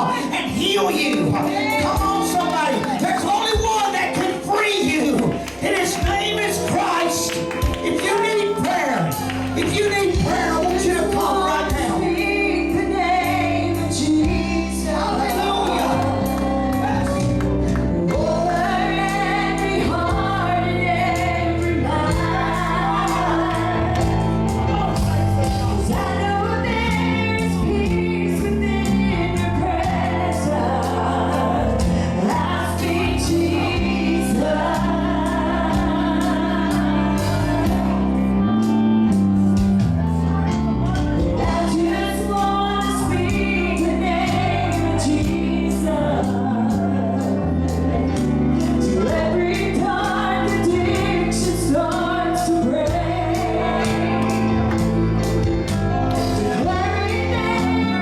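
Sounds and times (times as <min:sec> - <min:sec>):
woman singing gospel song: 0:00.0 - 0:39.2, 0:40.9 - 0:58.0.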